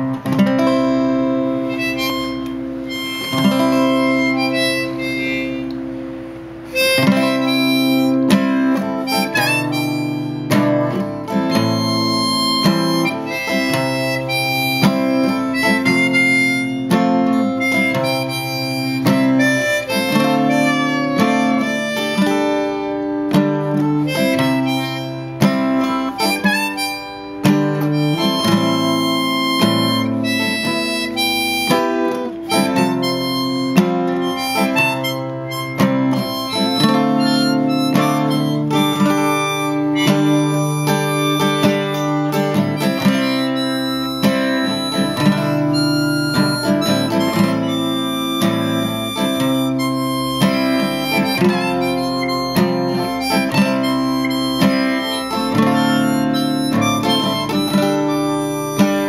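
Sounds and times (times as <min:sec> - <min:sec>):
acoustic guitar accompaniment: 0:00.0 - 0:59.0
harmonica melody: 0:00.0 - 0:59.0.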